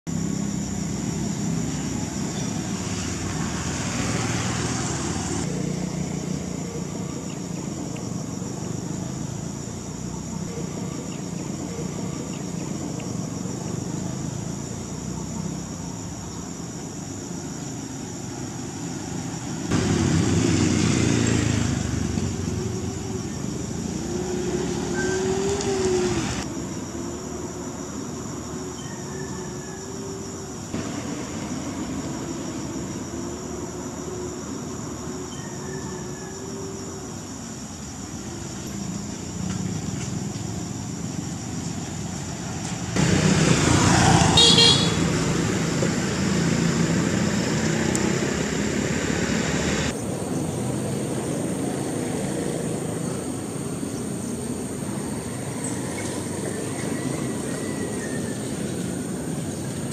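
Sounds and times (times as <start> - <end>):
insects chirring: 0.1 - 59.9
vehicles passing: 0.1 - 59.9.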